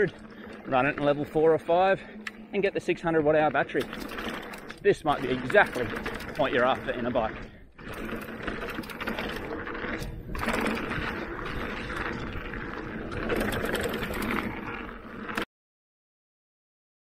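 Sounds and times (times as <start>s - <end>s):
tyres rushing over dirt: 0.0s - 15.4s
bike rattling and clicking: 0.0s - 15.5s.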